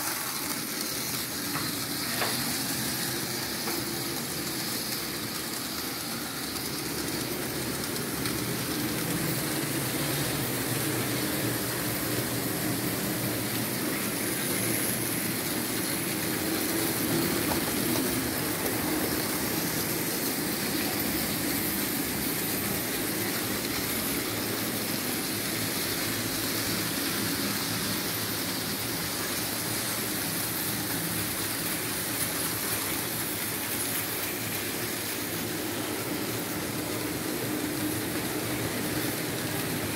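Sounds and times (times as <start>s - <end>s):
model train motor whirring: 0.0s - 39.9s
wheels rolling over track: 0.0s - 39.9s.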